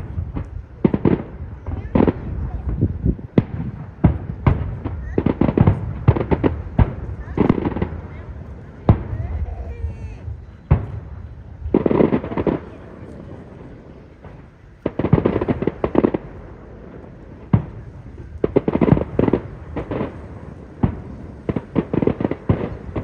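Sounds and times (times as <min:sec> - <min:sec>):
crackling firework reports: 0:00.0 - 0:23.0
firework bangs: 0:00.0 - 0:23.0.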